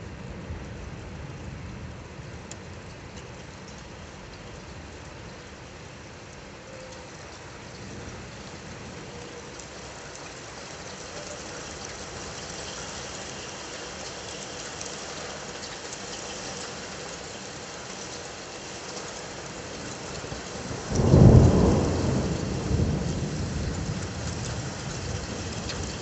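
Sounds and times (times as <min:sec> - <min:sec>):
steady rain hiss and patter: 0:00.0 - 0:26.0.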